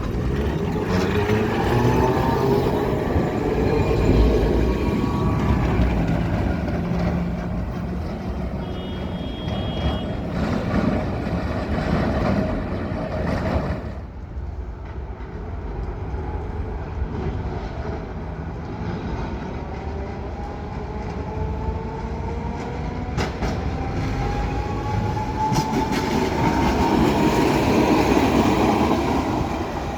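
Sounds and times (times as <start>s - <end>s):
tram running on rails: 0.0s - 29.9s.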